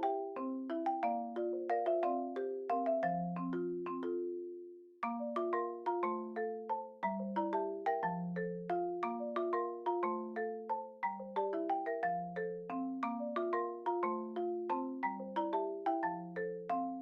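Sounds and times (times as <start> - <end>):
mallet percussion melody: 0.0 - 17.0.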